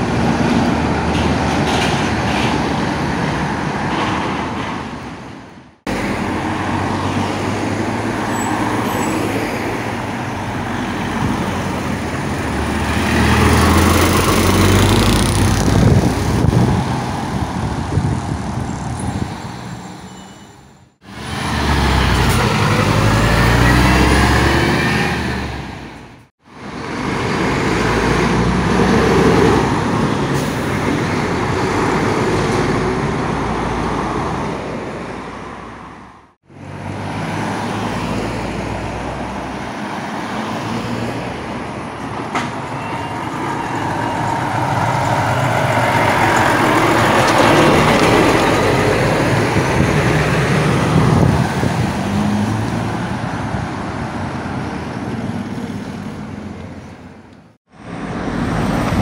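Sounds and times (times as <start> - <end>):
diesel lorries passing: 0.0 - 59.0
road traffic noise: 0.0 - 59.0.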